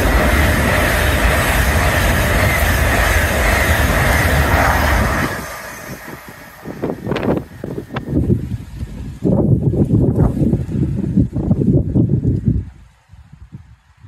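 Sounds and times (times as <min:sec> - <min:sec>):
high-speed train passing: 0:00.0 - 0:11.6.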